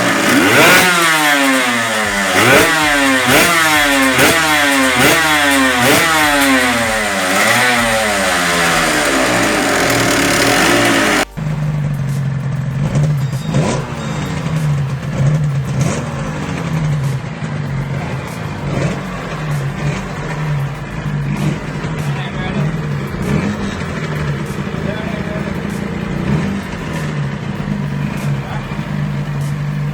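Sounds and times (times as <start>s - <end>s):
motorcycle engine idling unevenly: 0.0s - 29.9s
motorcycle engine revving: 0.0s - 29.9s.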